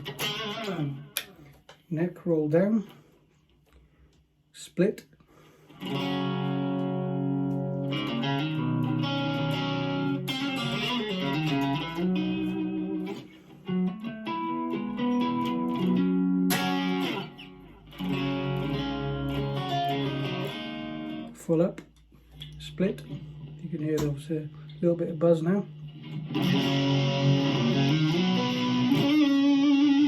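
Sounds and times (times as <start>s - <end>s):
electric guitar chords and notes: 0.0s - 1.7s, 5.8s - 21.4s, 22.0s - 30.0s.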